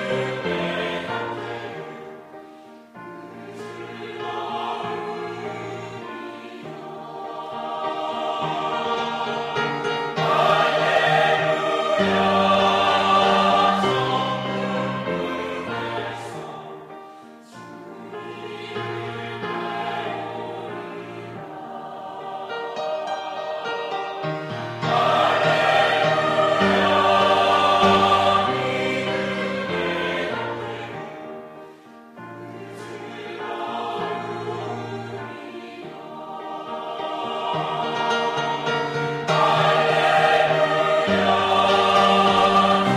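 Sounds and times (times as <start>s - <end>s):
choir singing sustained chords: 0.0s - 42.9s.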